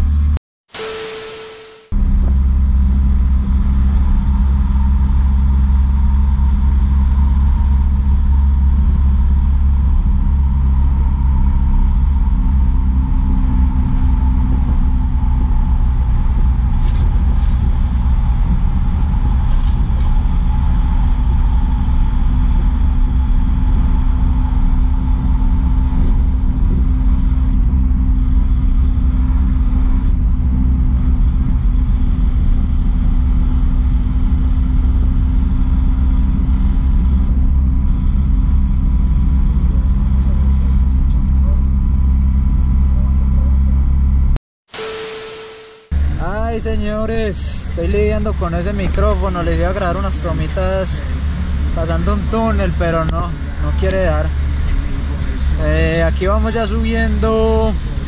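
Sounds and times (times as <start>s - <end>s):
road noise: 0.0s - 58.0s
truck engine running: 1.9s - 58.0s.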